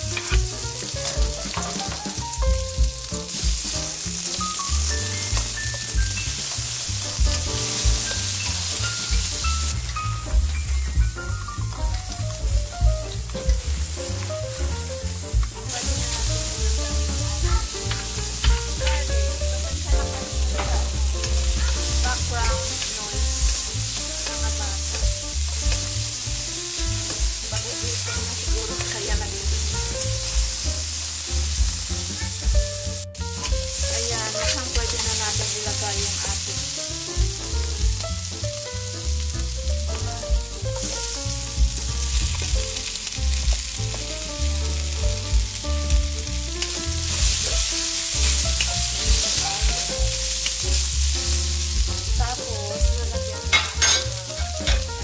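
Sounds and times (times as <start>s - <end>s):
background music with bass beat: 0.0s - 35.0s, 37.0s - 55.0s
onions sizzling in hot oil: 0.0s - 55.0s
wooden spatula scraping wok: 0.0s - 55.0s.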